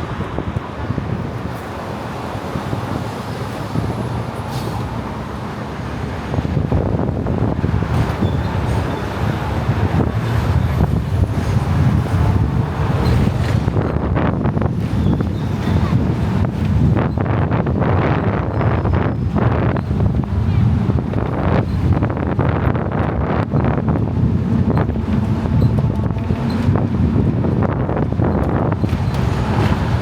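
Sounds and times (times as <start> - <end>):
heavy engine rumble: 0.0 - 30.0
traffic hum: 0.0 - 30.0.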